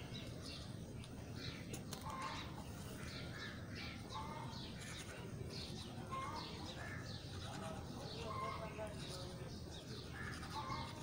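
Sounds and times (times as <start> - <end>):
birds chirping: 0.0 - 11.0
low background noise: 0.0 - 11.0.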